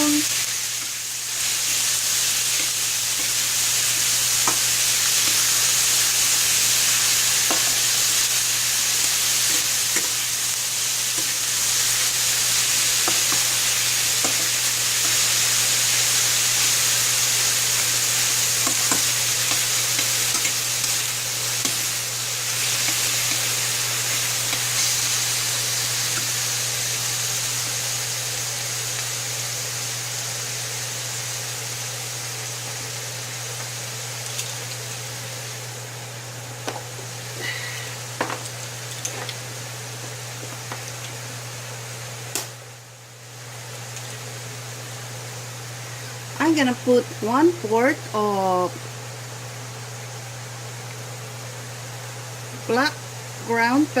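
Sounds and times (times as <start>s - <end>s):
meat sizzling in a frying pan: 0.0s - 54.0s.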